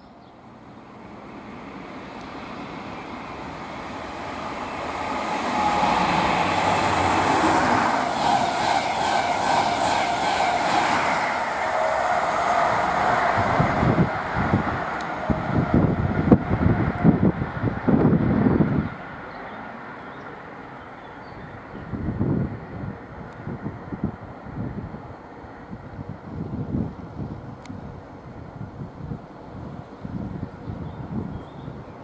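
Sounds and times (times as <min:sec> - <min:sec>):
train passing at speed: 0:00.0 - 0:32.0
wind buffeting microphone: 0:01.8 - 0:19.3, 0:21.2 - 0:32.0.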